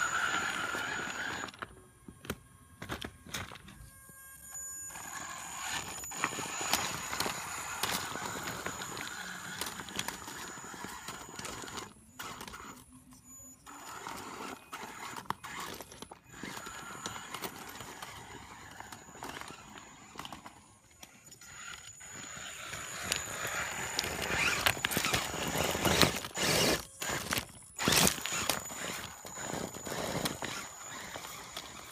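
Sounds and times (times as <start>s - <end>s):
electric motor whining: 0.0s - 31.9s.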